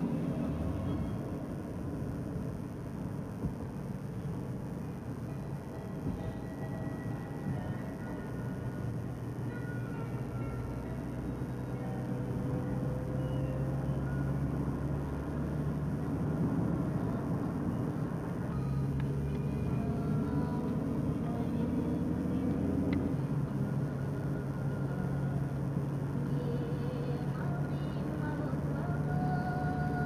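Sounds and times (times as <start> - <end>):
car engine drone: 0.0 - 30.0
tyre road noise: 0.0 - 30.0.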